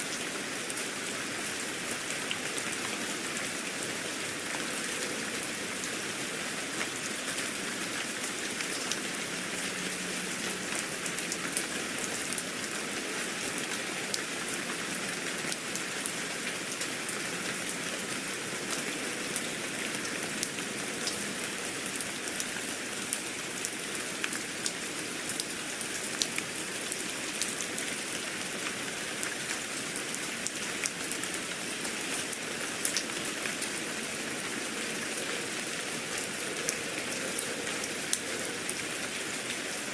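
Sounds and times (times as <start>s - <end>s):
steady rain hiss: 0.0s - 39.9s
raindrops ticking on surface: 0.1s - 39.9s.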